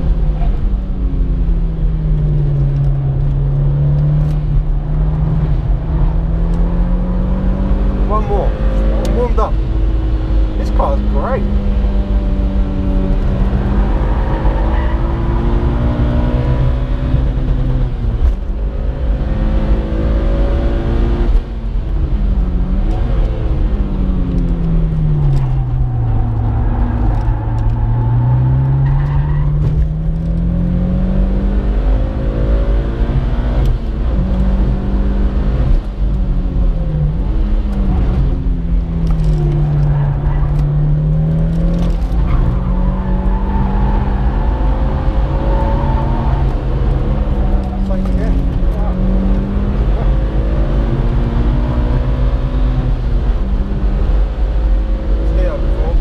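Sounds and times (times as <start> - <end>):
car engine under acceleration: 0.0 - 56.0
road and wind noise: 0.0 - 56.0.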